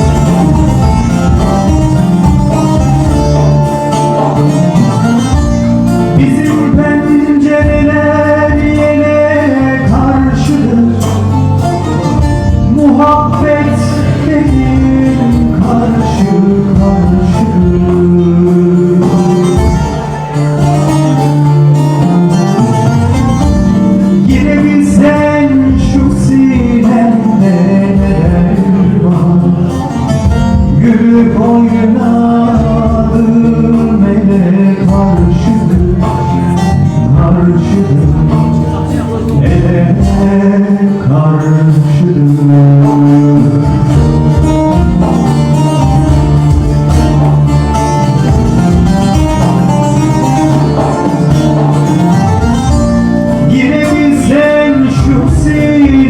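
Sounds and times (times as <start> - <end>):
live band folk music: 0.0 - 56.0
person singing: 0.0 - 56.0.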